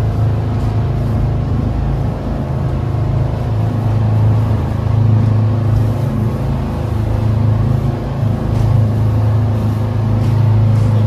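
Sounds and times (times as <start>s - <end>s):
motor engine running: 0.0s - 11.0s.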